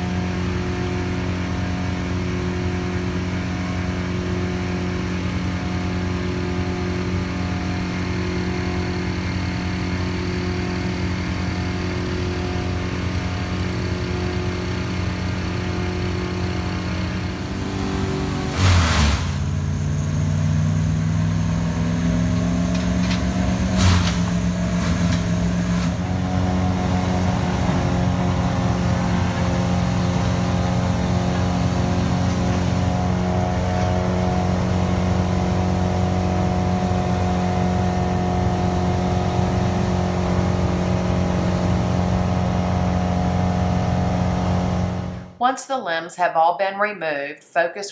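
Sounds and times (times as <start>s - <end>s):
large engine running: 0.0s - 45.4s.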